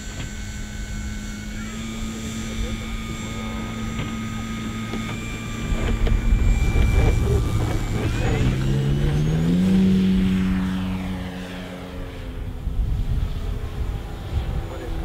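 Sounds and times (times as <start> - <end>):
model plane electric motor and propeller: 0.0 - 15.0
wind rumbling on microphone: 0.0 - 15.0.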